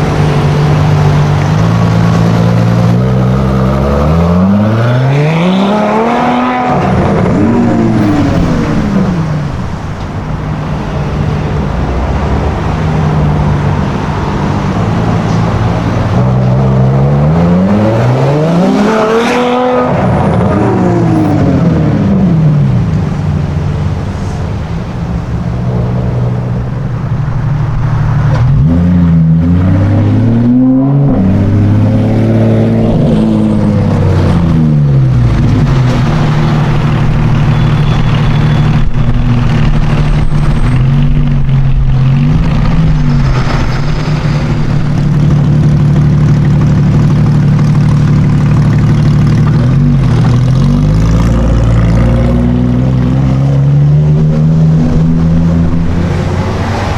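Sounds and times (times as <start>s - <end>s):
sports car engine revving: 0.0s - 56.9s.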